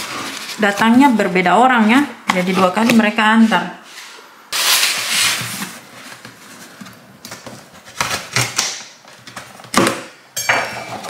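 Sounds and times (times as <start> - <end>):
cardboard rustling and scraping: 0.0 - 9.7.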